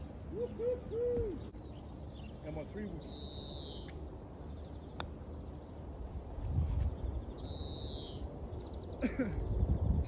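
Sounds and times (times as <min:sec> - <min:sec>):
bird calling: 0:00.0 - 0:05.4, 0:06.8 - 0:09.5.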